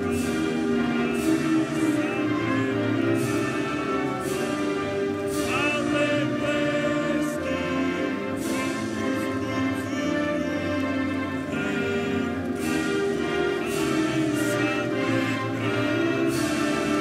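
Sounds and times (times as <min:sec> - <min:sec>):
choir singing sustained notes: 0:00.0 - 0:17.0
orchestral music: 0:00.0 - 0:17.0.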